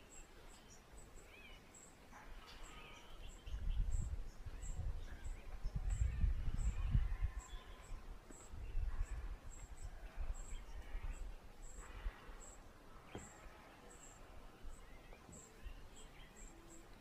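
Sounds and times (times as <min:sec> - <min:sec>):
faint bird calls: 0:00.0 - 0:17.0.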